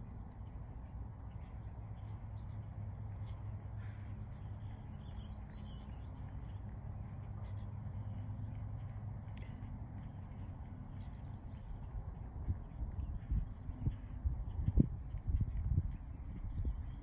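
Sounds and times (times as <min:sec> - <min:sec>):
birds chirping faintly: 0:00.0 - 0:17.0
low outdoor rumble: 0:00.0 - 0:17.0.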